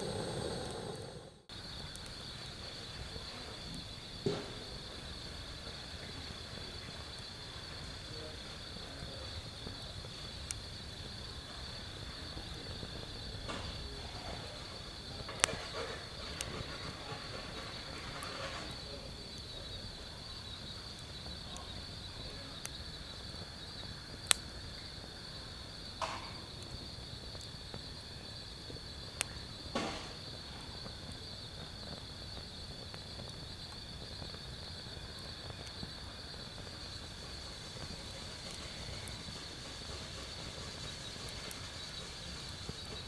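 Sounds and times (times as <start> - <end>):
insects chirping: 0.0 - 43.0
wood fire crackling: 0.0 - 43.0.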